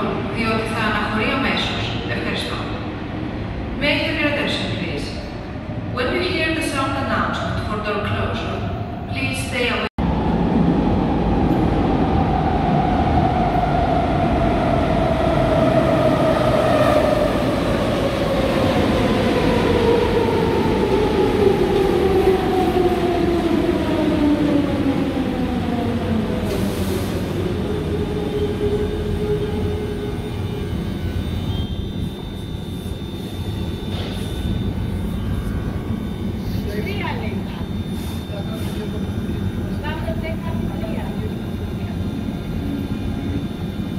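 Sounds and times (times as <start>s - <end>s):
train drive whine: 8.6s - 43.9s.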